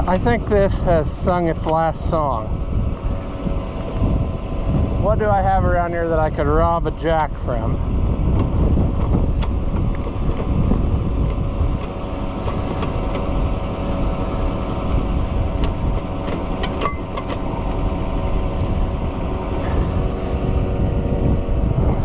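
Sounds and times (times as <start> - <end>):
tractor engine idling: 0.0 - 21.6.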